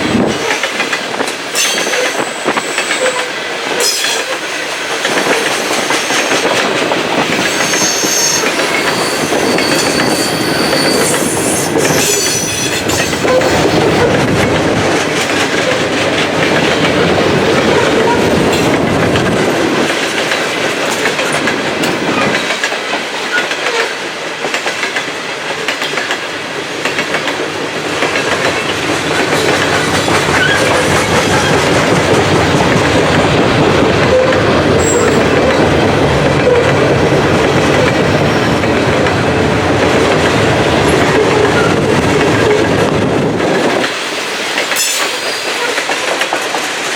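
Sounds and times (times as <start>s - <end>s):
low rumble of passing train: 0.0s - 46.9s
train wheels clattering over rail joints: 0.0s - 46.9s.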